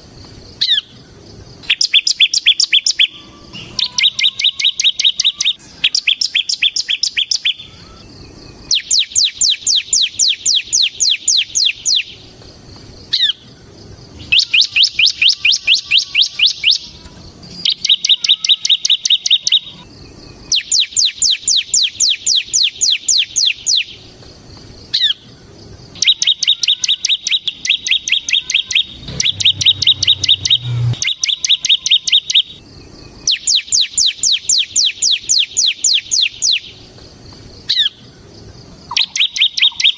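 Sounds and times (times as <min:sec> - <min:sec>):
bird singing rapid trills: 0:00.5 - 0:12.4, 0:13.0 - 0:24.2, 0:24.8 - 0:36.9, 0:37.6 - 0:39.9.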